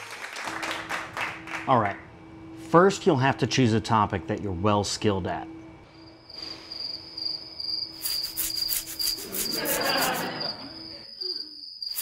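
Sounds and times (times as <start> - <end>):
crickets chirping: 1.4 - 12.0.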